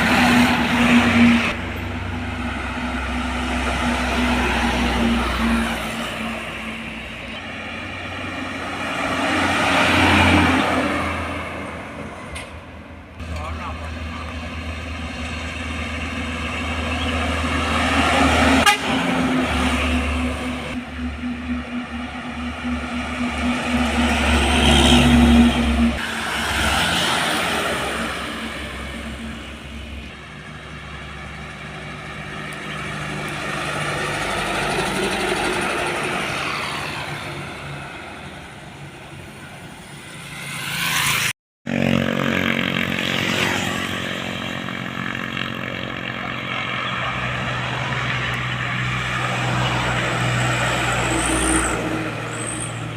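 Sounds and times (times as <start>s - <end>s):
heavy trucks passing: 0.0s - 52.9s.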